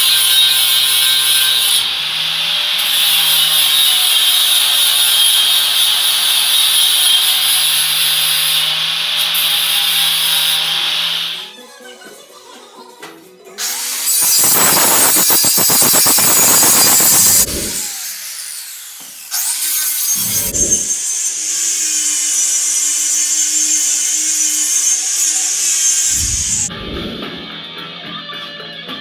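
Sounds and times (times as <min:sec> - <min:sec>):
angle grinder grinding metal: 0:00.0 - 0:11.4, 0:13.6 - 0:27.6.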